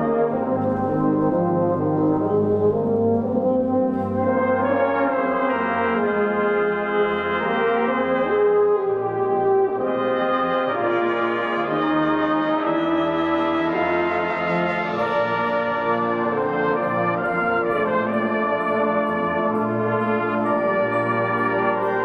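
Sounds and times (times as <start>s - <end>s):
brass band playing slow chords: 0.0s - 22.0s.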